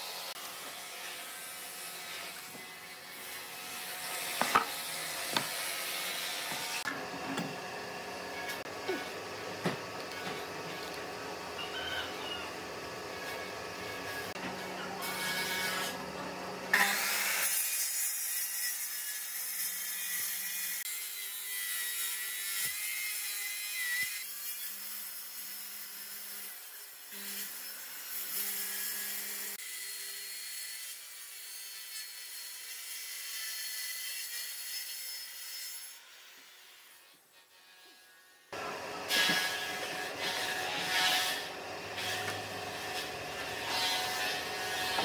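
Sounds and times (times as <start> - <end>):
circular saw cutting wood: 0.0 - 45.0.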